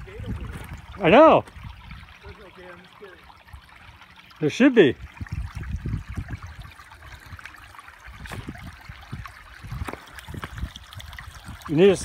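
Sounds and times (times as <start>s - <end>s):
creek water trickling over rocks: 0.0s - 12.0s.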